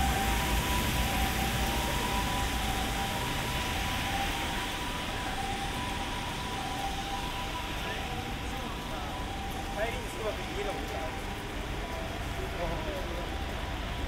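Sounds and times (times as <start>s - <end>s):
street noise: 0.0s - 14.0s
two-tone ambulance siren: 0.0s - 14.0s.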